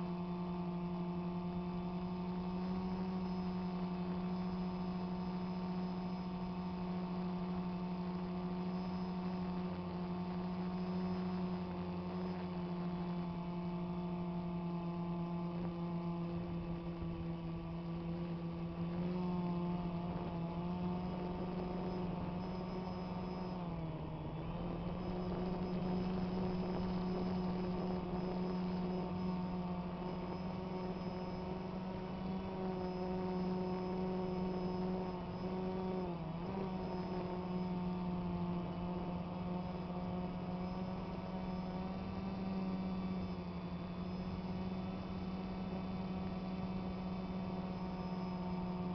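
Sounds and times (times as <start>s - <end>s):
drone propellers humming: 0.0s - 48.9s.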